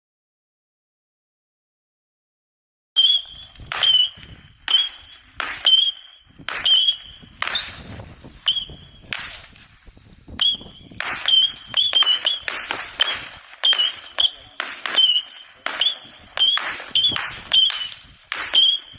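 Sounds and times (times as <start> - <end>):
firework missiles cracking: 3.0 - 18.9
firework whistles: 3.0 - 18.9.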